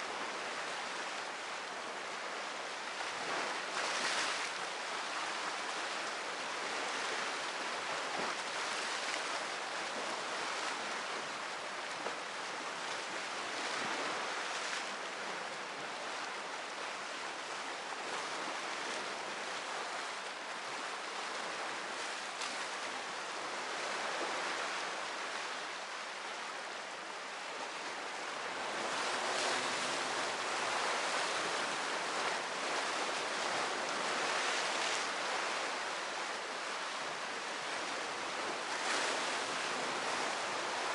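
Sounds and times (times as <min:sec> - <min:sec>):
sea waves breaking ashore: 0:00.0 - 0:40.9.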